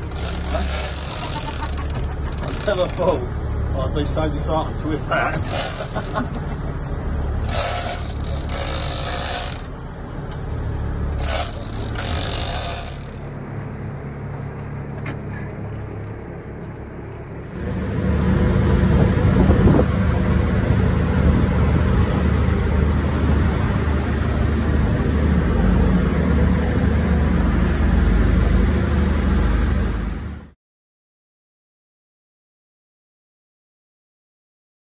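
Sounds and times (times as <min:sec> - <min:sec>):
boat engine rumbling: 0:00.0 - 0:30.6.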